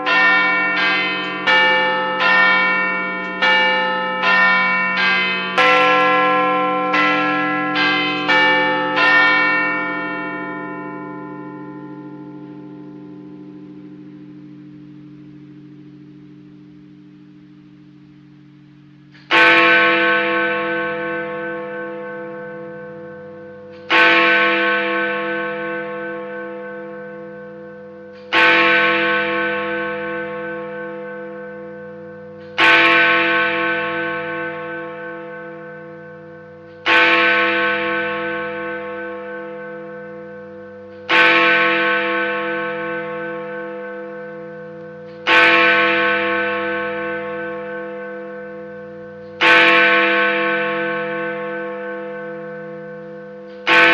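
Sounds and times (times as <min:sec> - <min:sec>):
clock bell striking: 0:00.0 - 0:53.9.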